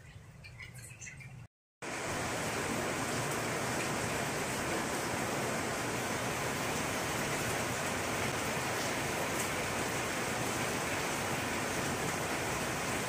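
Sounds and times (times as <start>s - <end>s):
heavy rain on patio and leaves: 1.8s - 13.0s.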